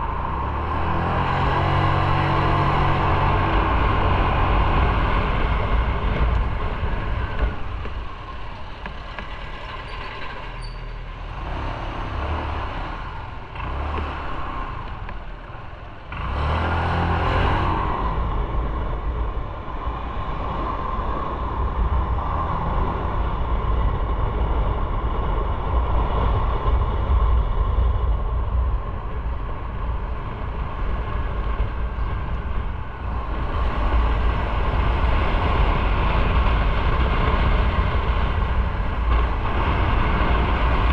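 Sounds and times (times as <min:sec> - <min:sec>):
motorcycle engine rumble: 0:00.0 - 0:40.9
wind rushing over microphone: 0:00.0 - 0:40.9.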